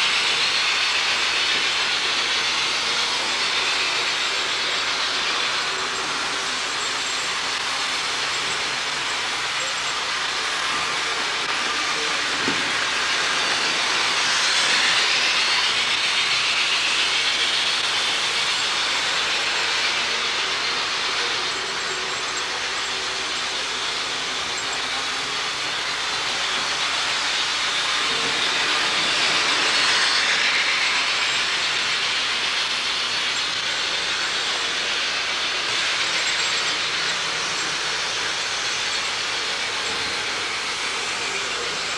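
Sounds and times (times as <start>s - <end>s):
model train whirring rattle: 0.0s - 41.9s.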